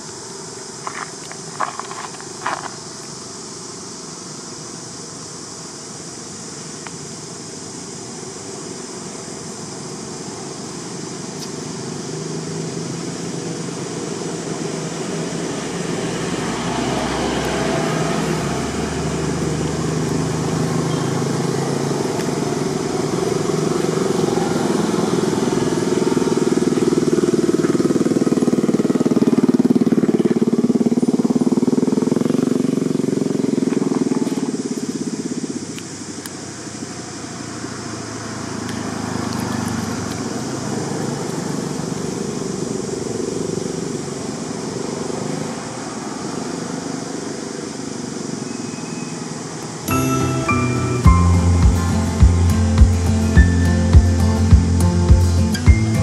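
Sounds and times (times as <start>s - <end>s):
vehicle engine running: 6.6s - 45.8s, 50.0s - 56.0s.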